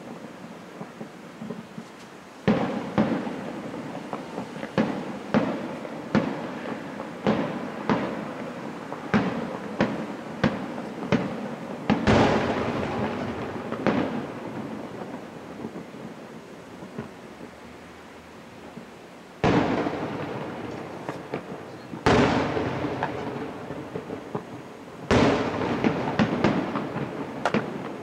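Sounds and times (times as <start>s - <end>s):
firework shells bursting: 0.0s - 17.6s, 18.7s - 28.0s.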